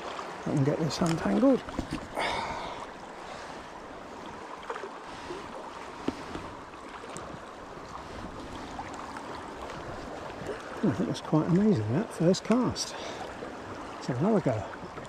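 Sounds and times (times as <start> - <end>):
flowing river water: 0.0 - 15.0
water swish: 0.0 - 15.0.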